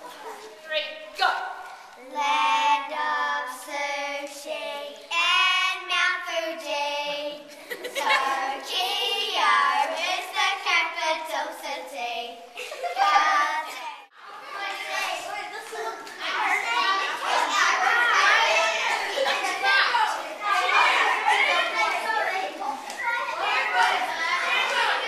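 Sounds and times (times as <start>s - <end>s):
girls singing together: 1.6s - 25.0s.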